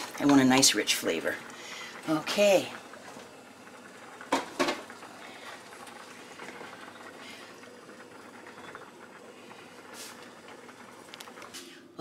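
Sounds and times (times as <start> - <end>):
sauce bubbling: 0.0 - 11.9.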